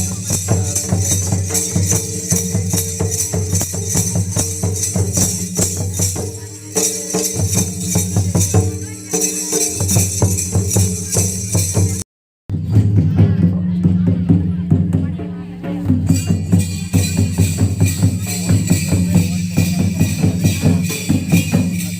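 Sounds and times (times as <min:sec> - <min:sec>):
jingling percussion: 0:00.0 - 0:21.9
rapid drum beat: 0:00.0 - 0:21.9.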